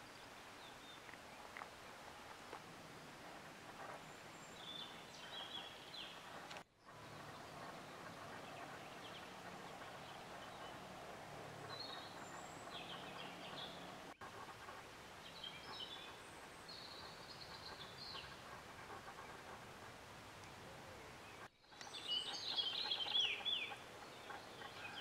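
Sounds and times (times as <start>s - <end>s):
background hiss: 0.0s - 25.0s
small birds calling: 0.0s - 25.0s.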